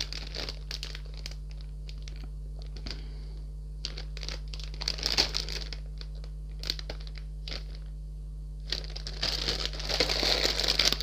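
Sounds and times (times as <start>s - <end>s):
plastic bags crinkling: 0.0s - 3.1s, 3.8s - 7.9s, 8.6s - 11.0s.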